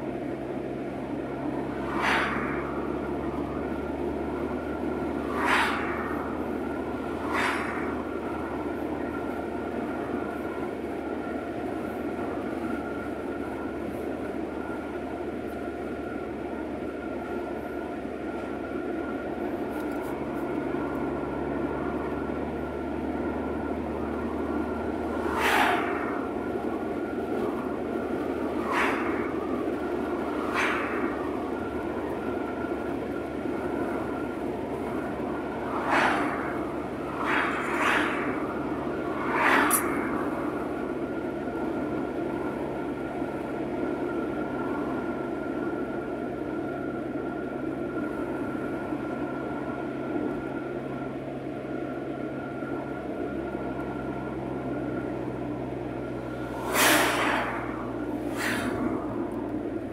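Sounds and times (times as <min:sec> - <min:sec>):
cars passing by: 0:00.0 - 0:59.9
road and engine noise inside car: 0:00.0 - 0:59.9.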